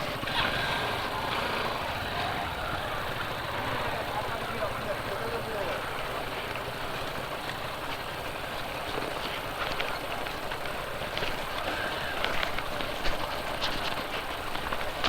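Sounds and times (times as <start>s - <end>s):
motorcycle engine: 0.0s - 15.0s.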